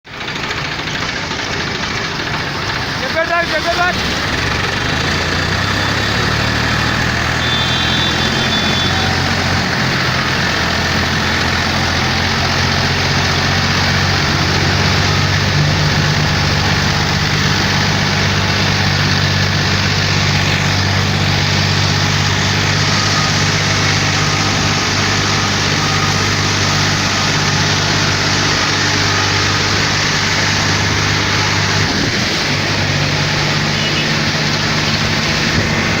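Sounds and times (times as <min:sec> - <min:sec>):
vehicle engine idling: 0:00.0 - 0:36.0.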